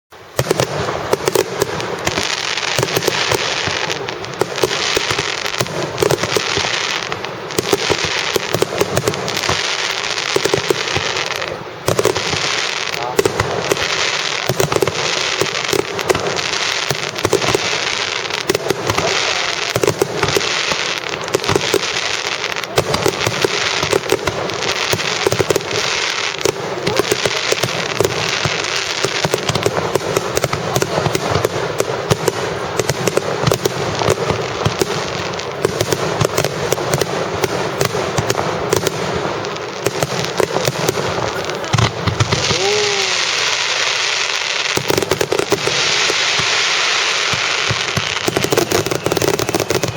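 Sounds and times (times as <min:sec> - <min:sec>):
fireworks bangs and crackling: 0:00.1 - 0:49.9.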